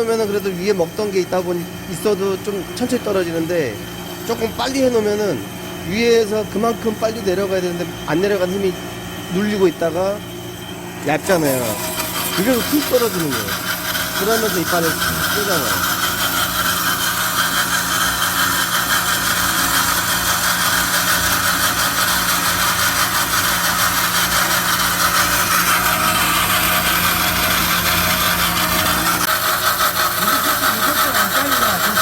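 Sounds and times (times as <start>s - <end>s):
band saw cutting metal tube: 0.0s - 32.0s.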